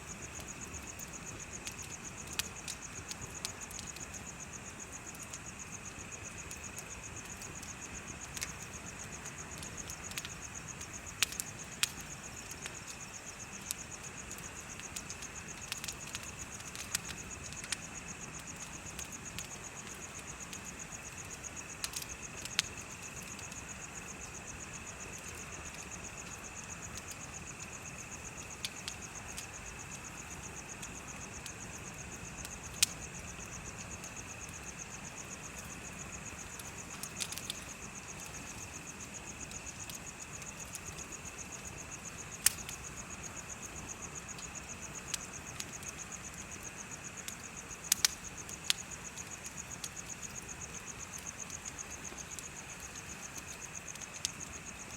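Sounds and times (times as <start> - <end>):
bonfire crackling: 0.0 - 54.9
insect low steady chirring: 0.0 - 54.9.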